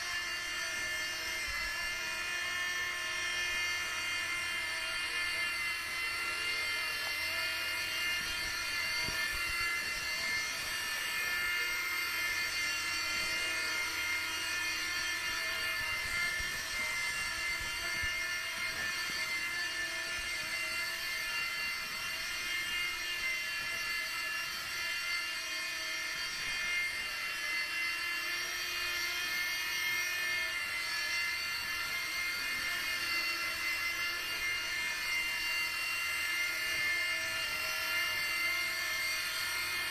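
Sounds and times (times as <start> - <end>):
toy helicopter motors whining: 0.0 - 39.9.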